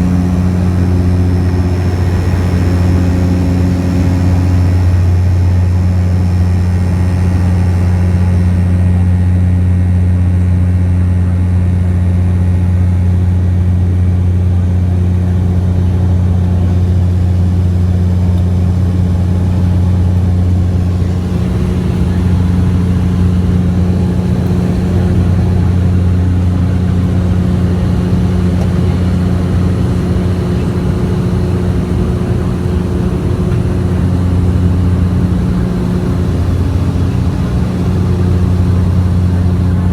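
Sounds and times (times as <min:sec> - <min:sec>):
higher hum: 0:00.0 - 0:39.9
propeller drone in cabin: 0:00.0 - 0:39.9.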